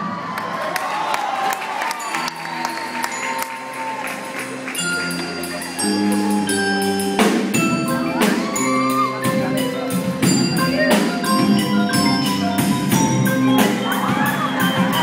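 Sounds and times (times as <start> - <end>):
marimbas playing chords: 1.9 - 15.0.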